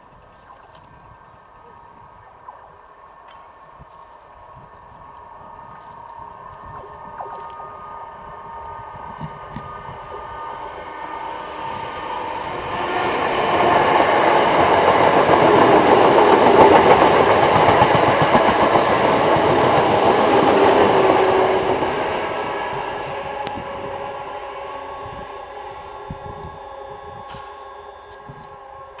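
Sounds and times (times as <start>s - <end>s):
train wheels on rails: 3.3s - 29.0s.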